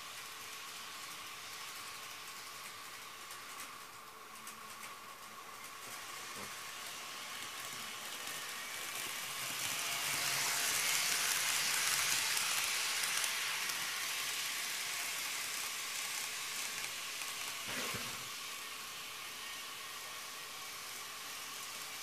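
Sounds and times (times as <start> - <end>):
model train whirring on track: 0.0 - 22.0.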